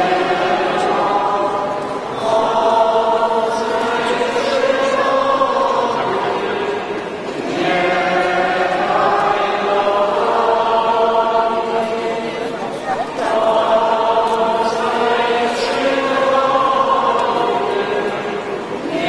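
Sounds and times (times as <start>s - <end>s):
choir singing slow song: 0.0s - 19.0s.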